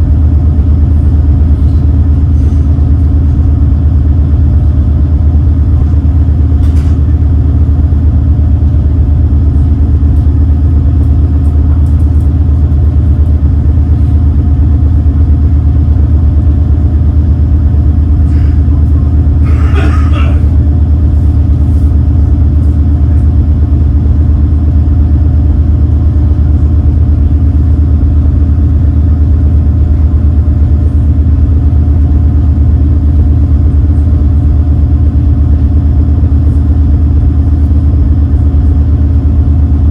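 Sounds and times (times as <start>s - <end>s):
boat engines droning: 0.0s - 39.9s.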